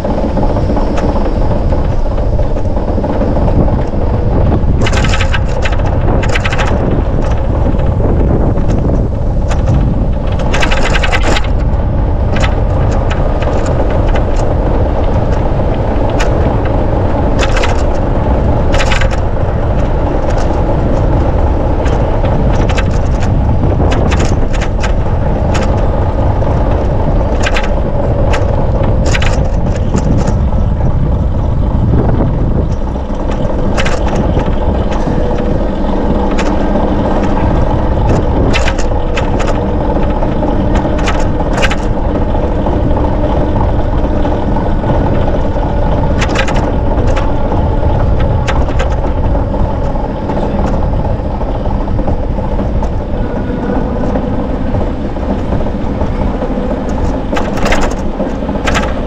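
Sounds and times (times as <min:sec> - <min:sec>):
bicycle clicks and rattles: 0:00.0 - 0:59.0
wind and tyres rushing: 0:00.0 - 0:59.0.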